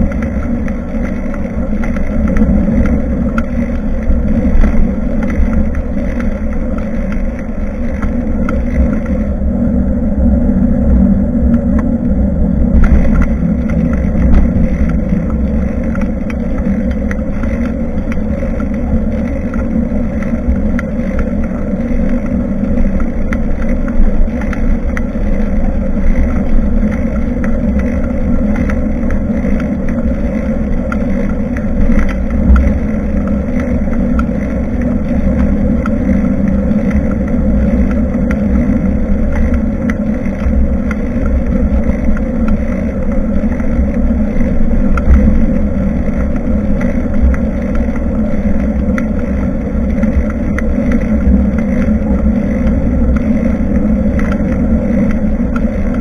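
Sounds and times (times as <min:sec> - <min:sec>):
road rumble: 0:00.0 - 0:56.0
wind buffeting microphone: 0:00.0 - 0:56.0.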